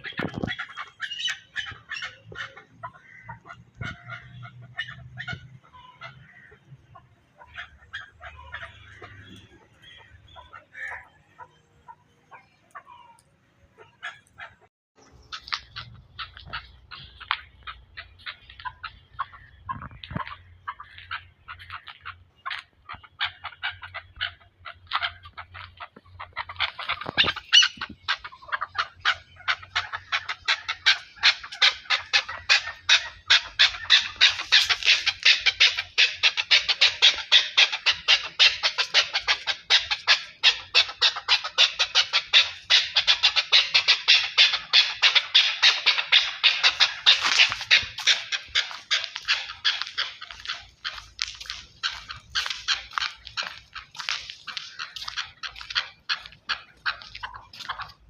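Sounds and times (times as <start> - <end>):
partridge clucking calls: 0.0 - 58.0.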